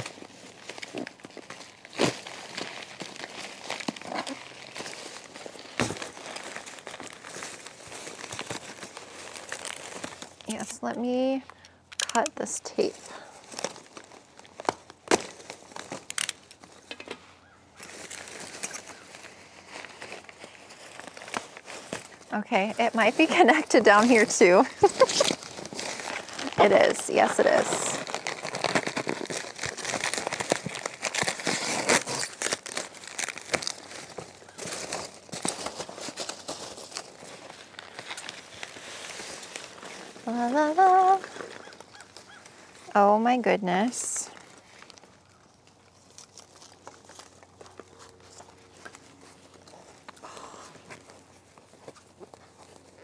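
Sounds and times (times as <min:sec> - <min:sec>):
packing peanuts rustling: 0:00.0 - 0:53.0.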